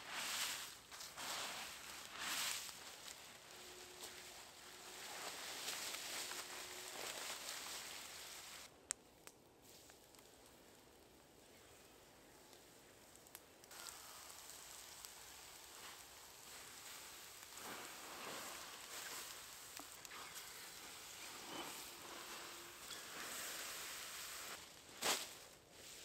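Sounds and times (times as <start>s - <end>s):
faint outdoor hiss: 0.0s - 26.0s.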